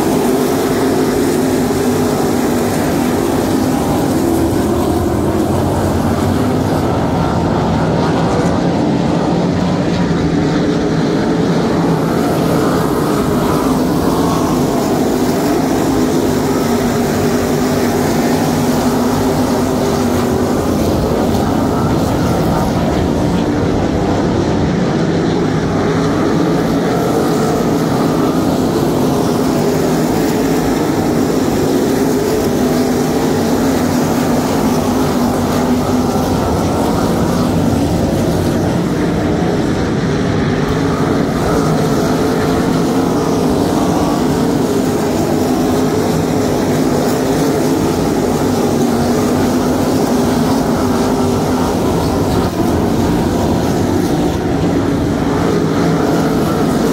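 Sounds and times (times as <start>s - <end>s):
racing car engines droning: 0.0s - 56.9s.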